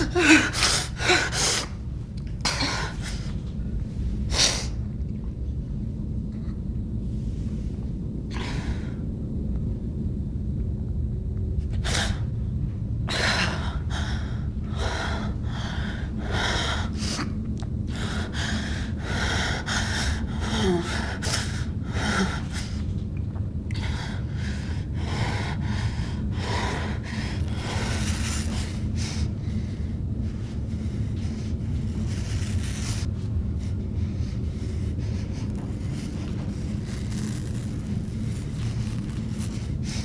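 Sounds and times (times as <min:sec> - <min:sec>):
woman breathing heavily: 0:00.0 - 0:05.0, 0:06.3 - 0:09.3, 0:11.6 - 0:40.0
steady low drone: 0:00.0 - 0:40.0.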